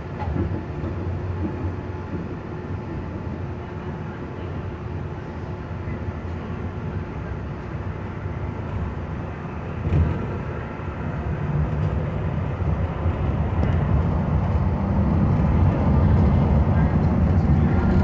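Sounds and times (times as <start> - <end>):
monorail running: 0.0 - 18.0.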